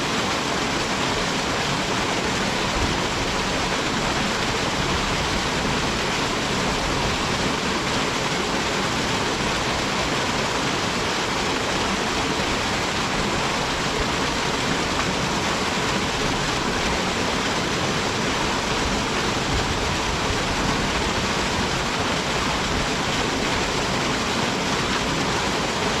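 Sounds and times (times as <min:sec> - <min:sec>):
waterfall pouring into pool: 0:00.0 - 0:26.0.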